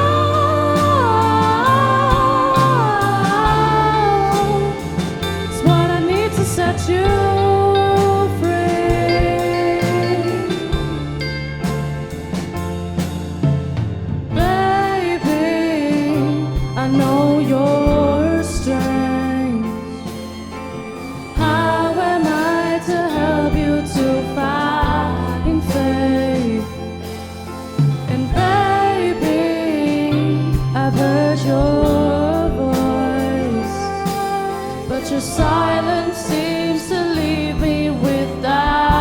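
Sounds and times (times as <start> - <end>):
bending lead melody: 0.0 - 39.0
live pop band music: 0.0 - 39.0.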